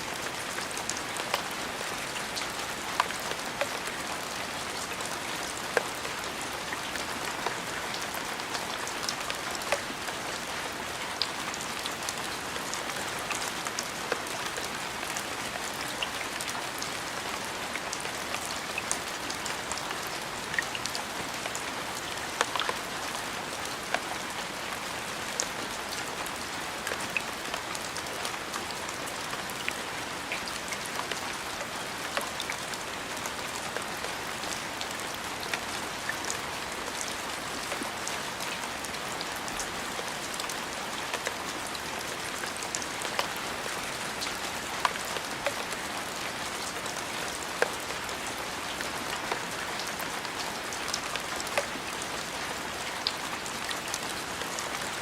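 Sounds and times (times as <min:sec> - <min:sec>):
rain on a hard surface: 0:00.0 - 0:55.0.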